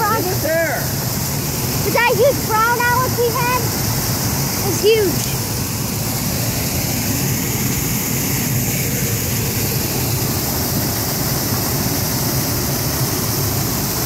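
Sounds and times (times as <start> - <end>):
water crashing over spillway: 0.0 - 14.0.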